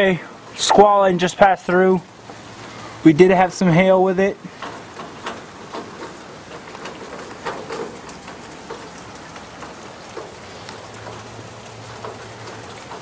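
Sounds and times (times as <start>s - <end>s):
rain splashing on surfaces: 0.0s - 13.0s.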